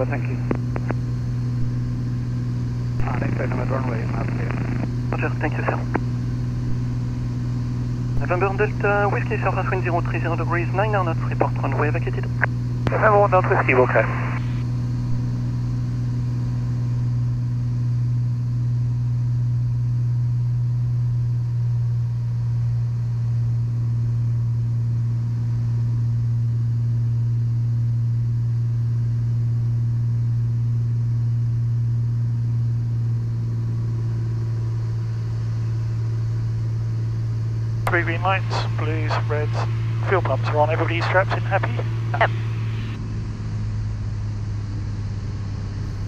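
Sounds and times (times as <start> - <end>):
light aircraft engine and propeller: 0.0 - 46.0.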